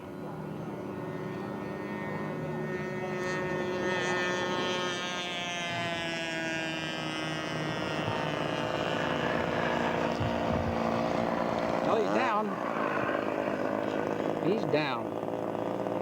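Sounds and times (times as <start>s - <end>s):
model airplane engine drone: 0.0s - 16.0s.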